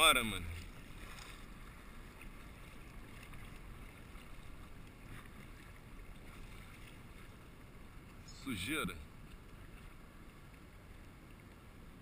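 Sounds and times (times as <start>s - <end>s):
paddle splashing in water: 0.0s - 11.6s.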